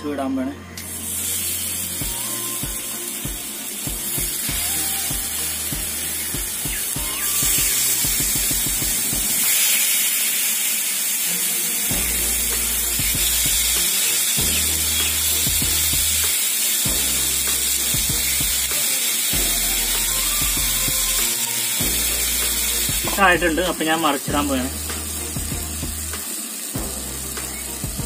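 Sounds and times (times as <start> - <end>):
background music with bass: 0.0 - 9.4, 11.8 - 16.3, 16.9 - 28.0
fish sizzling in oil: 0.8 - 28.0.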